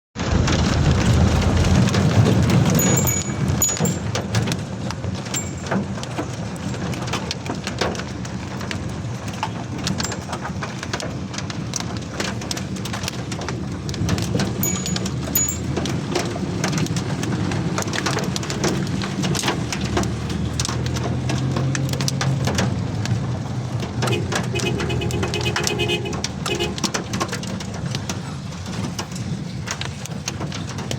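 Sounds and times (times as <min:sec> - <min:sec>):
heavy rain falling: 0:00.2 - 0:30.9
raindrops striking hard surfaces: 0:00.2 - 0:30.9.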